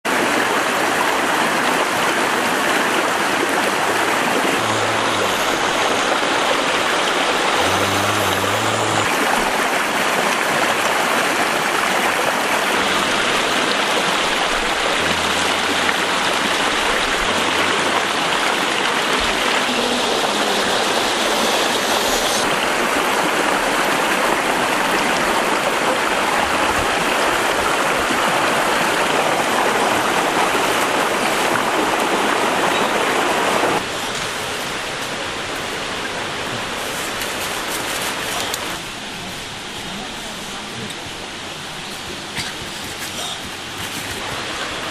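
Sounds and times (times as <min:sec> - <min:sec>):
stream rushing over stones: 0:00.0 - 0:44.9.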